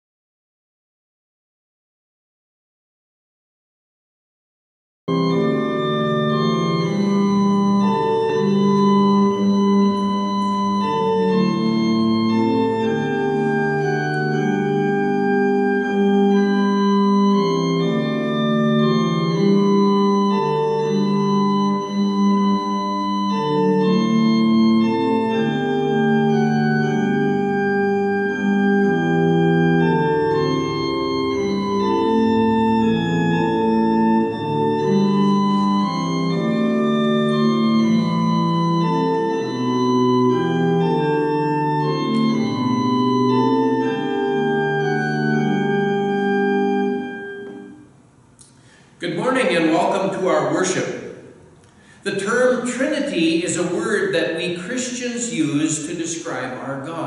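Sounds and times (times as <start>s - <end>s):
organ playing sustained chords: 5.1s - 57.0s.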